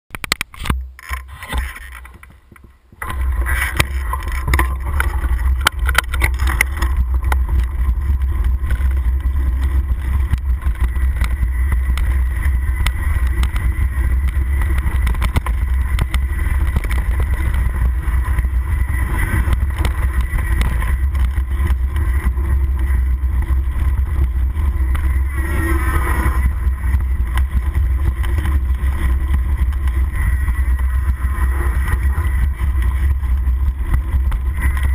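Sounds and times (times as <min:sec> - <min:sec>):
bike rattling over rough trail: 0:00.1 - 0:34.9
wind buffeting microphone: 0:00.6 - 0:34.9.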